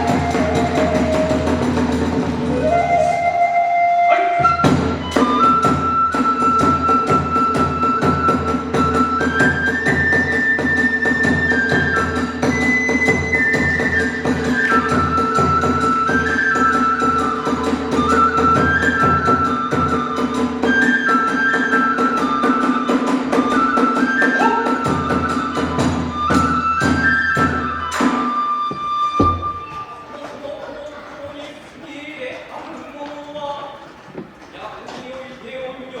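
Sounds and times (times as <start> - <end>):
bamboo flute melody: 0.0 - 30.4.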